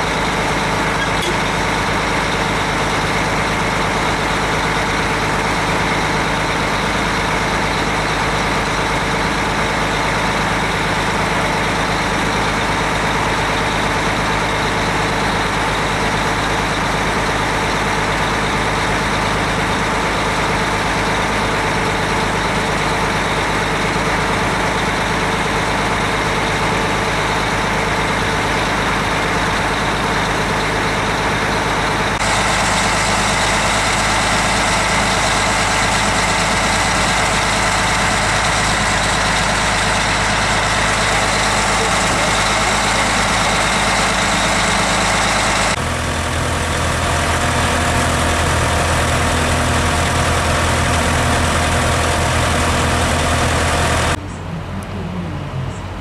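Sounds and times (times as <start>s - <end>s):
fire truck engines running: 0.0s - 56.0s.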